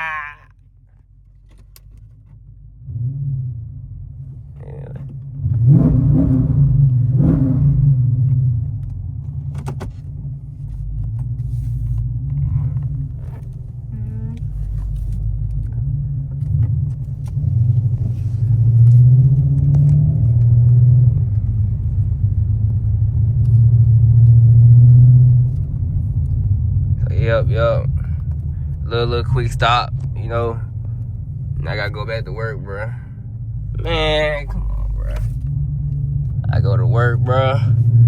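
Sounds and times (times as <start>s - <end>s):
car exhaust drone: 0.0s - 38.0s.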